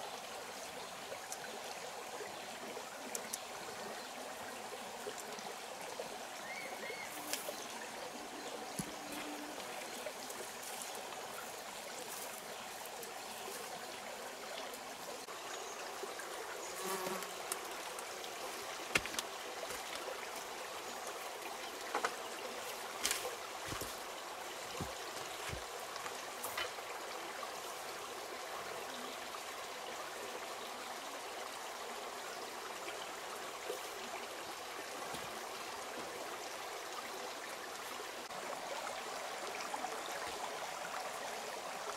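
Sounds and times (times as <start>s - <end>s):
rocky stream rushing and trickling: 0.0s - 41.9s.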